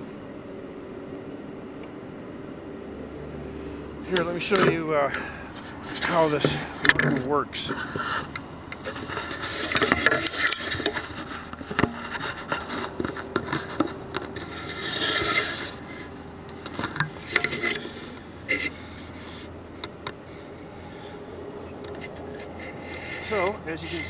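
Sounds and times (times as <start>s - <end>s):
handling noise on microphone: 4.0s - 24.0s.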